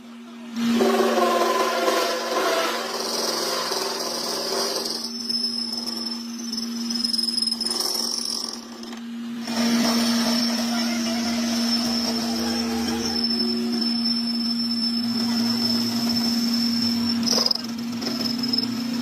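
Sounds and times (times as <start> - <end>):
power tool humming with high whine: 0.0 - 19.0.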